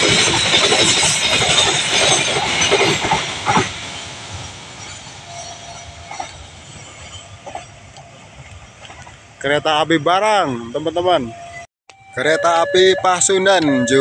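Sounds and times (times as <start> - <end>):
freight train rolling past: 0.0 - 11.6.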